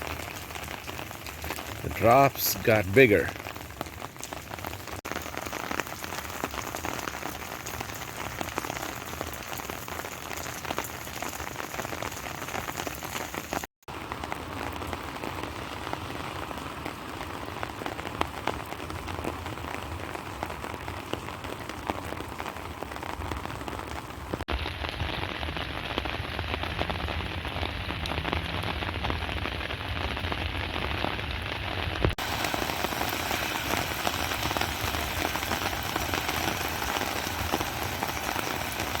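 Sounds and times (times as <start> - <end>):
heavy rain patter: 0.0 - 39.0.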